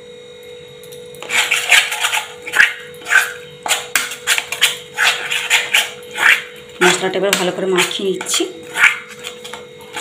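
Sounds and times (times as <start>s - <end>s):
spoon scraping a metal bowl: 1.2s - 10.0s.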